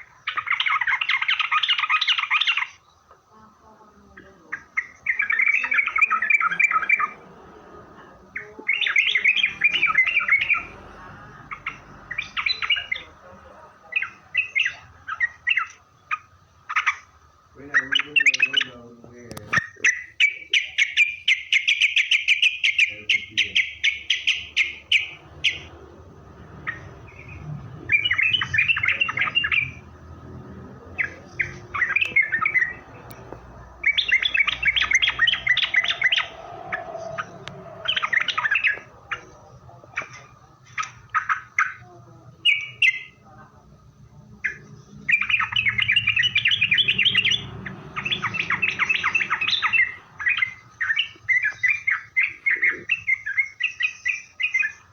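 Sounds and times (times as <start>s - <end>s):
bulbul chattering calls: 0.0s - 43.3s, 44.3s - 54.9s.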